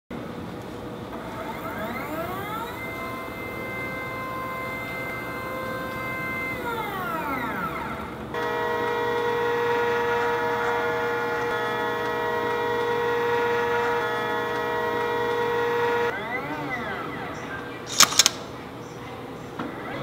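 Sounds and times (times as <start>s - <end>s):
steady multi-tone whine: 0.1s - 20.0s
stepper motor whining: 1.0s - 18.6s.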